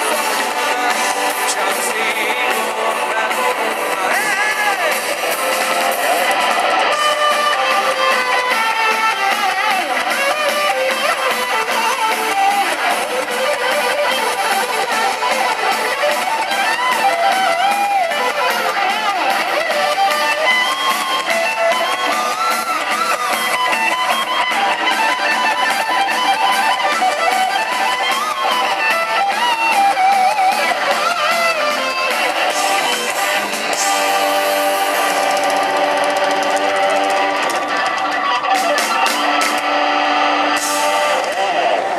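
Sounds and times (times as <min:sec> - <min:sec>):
electric guitar melody bending: 0:00.0 - 0:41.9
live rock band playing: 0:00.0 - 0:41.9.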